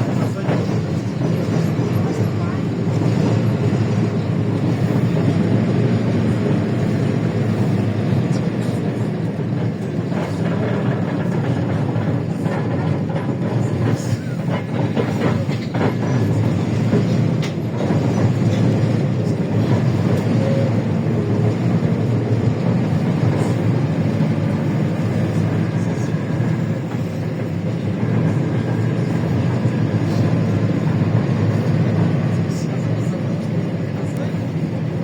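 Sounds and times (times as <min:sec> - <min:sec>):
bus body rattles and clicks: 0:00.0 - 0:35.0
bus engine drone: 0:00.0 - 0:35.0.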